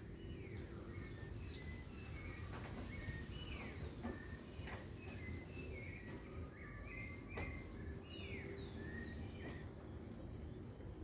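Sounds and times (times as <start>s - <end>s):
distant city rumble: 0.0s - 11.0s
small birds chirping: 0.0s - 11.0s.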